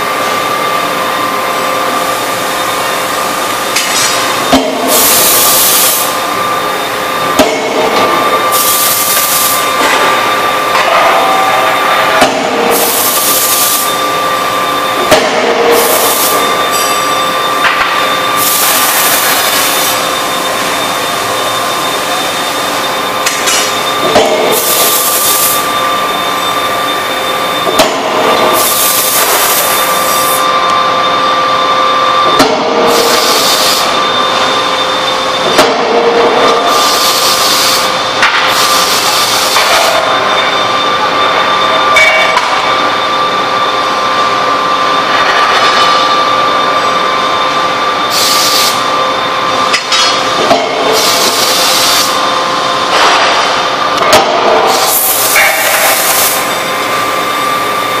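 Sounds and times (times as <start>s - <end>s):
machine hum with high tone: 0.0s - 58.0s.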